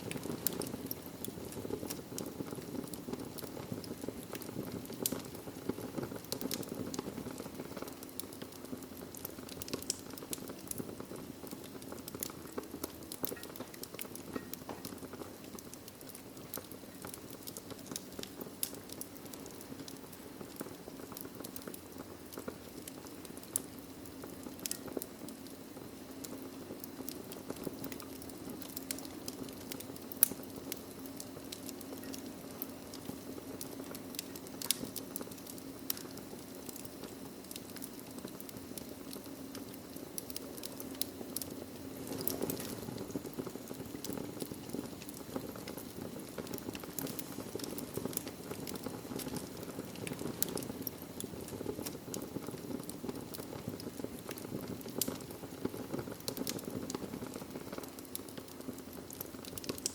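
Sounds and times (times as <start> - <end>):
flames rushing: 0.0 - 59.9
wood fire crackling and popping: 0.0 - 59.9.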